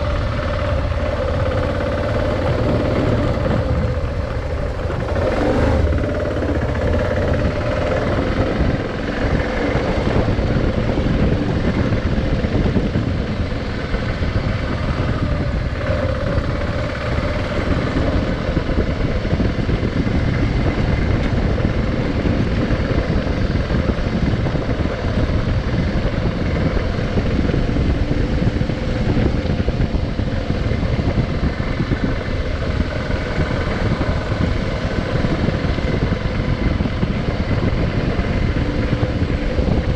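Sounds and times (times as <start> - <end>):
motorcycle engine running: 0.0 - 39.9
wind and road noise rumble: 0.0 - 39.9.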